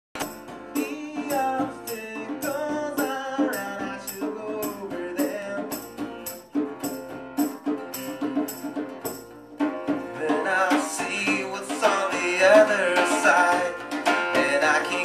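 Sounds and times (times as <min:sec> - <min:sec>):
acoustic guitar notes: 0:00.2 - 0:15.0
percussion beat: 0:00.2 - 0:15.0.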